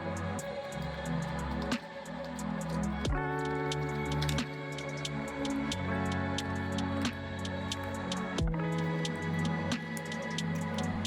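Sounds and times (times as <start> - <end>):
background music with ticking beat: 0.2 - 11.0.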